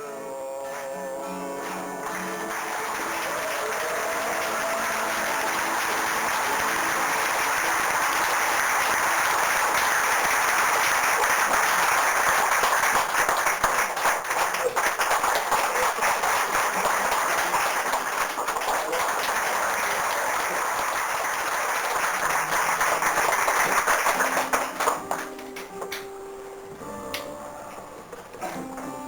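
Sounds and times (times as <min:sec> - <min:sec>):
audience applause: 0:00.7 - 0:26.1.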